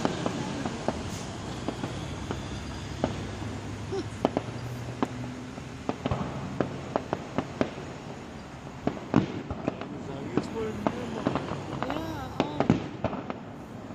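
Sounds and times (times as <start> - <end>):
fireworks bangs and crackles: 0.0 - 13.9.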